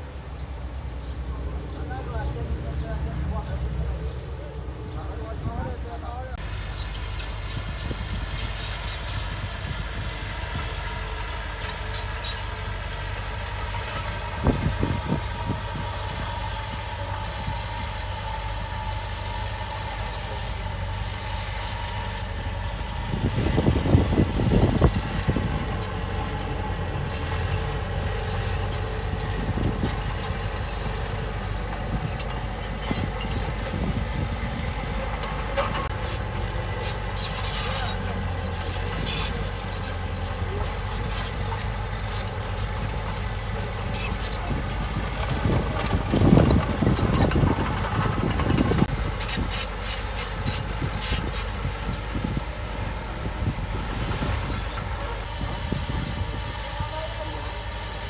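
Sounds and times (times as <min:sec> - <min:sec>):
diesel machine engine drone: 0:00.0 - 0:58.0.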